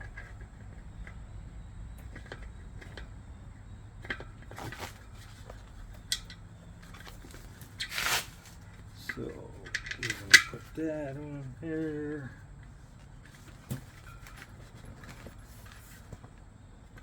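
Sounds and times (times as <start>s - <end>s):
bicycle tire handling clicks and rustling: 0.0s - 17.0s
steady low hum: 0.0s - 17.0s.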